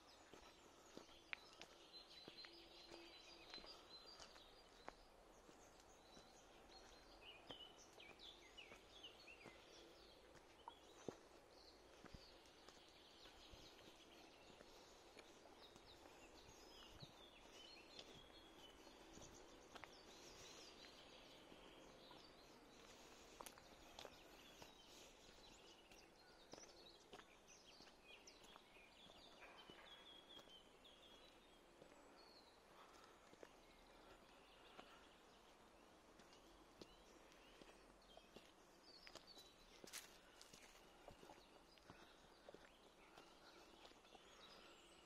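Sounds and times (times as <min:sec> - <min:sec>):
small birds chirping and trilling: 0:00.0 - 0:45.0
soft footsteps on a path: 0:00.0 - 0:45.0.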